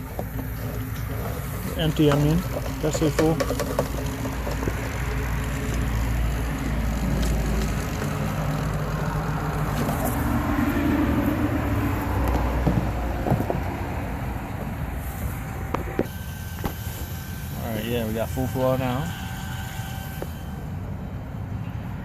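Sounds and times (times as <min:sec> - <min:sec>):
fuel pump running: 0:00.0 - 0:21.5.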